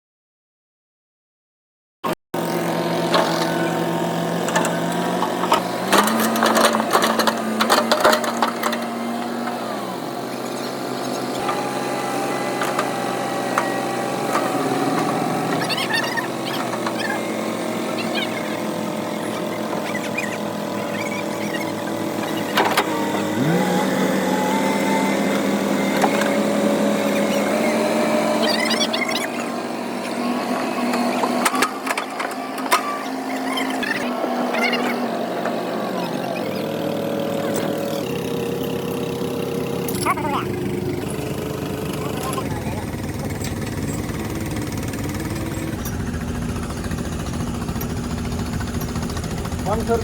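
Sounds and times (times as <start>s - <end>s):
excavator diesel engine running: 2.4s - 50.0s.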